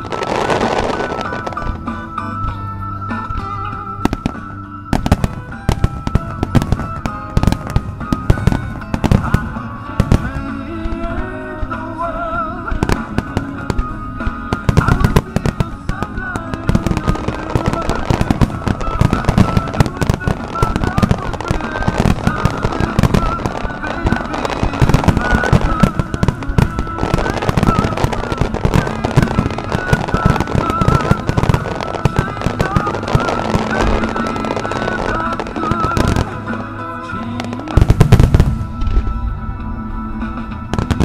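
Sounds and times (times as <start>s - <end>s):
fireworks bursting: 0.0s - 41.0s
melodic music: 0.0s - 41.0s.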